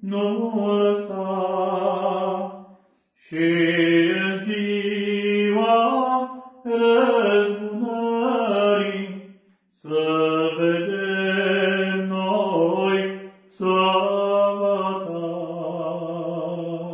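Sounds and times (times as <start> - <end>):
man singing unaccompanied church song: 0.0 - 16.9.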